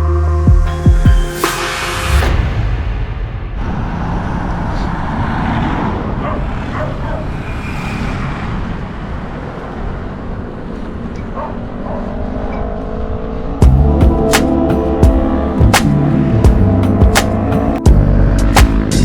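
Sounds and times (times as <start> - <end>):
road traffic passing: 1.4 - 19.0.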